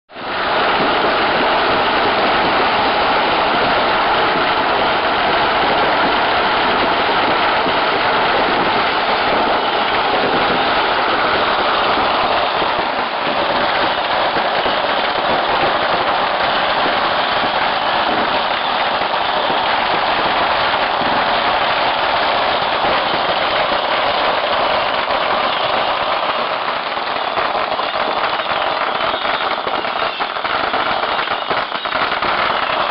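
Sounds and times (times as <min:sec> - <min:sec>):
firecrackers crackling: 0:00.1 - 0:32.9.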